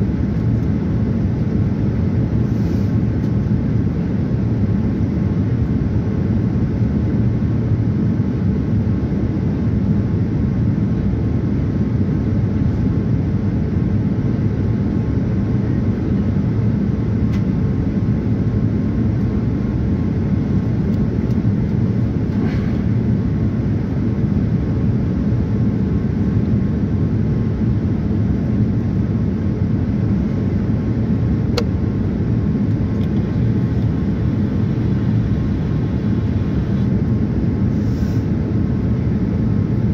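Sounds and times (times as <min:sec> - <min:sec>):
airplane cabin hum: 0:00.0 - 0:39.9.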